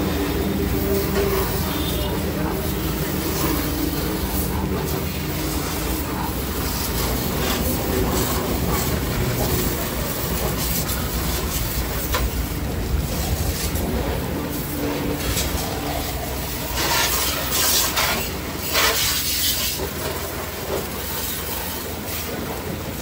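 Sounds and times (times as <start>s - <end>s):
pressure washer spraying water: 0.0s - 23.0s.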